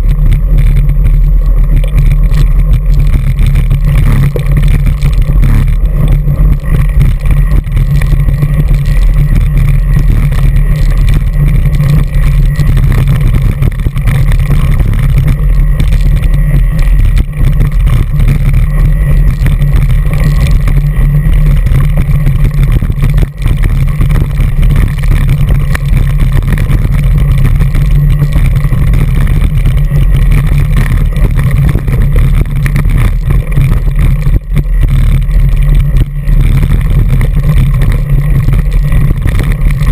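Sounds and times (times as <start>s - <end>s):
trail vibration rumble: 0.0s - 39.9s
wind buffeting camera: 0.0s - 39.9s.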